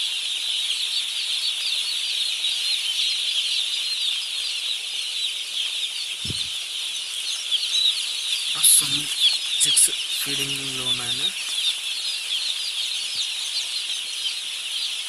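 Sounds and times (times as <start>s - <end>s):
chicks peeping: 0.1s - 15.0s.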